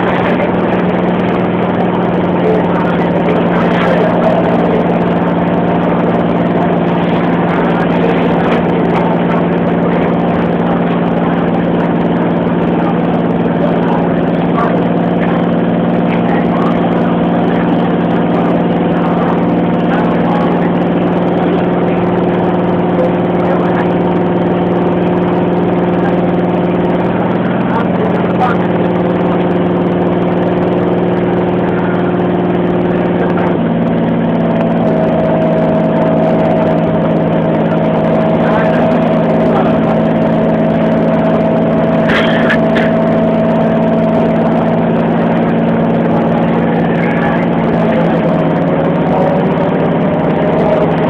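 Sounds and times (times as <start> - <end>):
electric train running: 0.0 - 51.0
steady electric hum: 0.0 - 51.0.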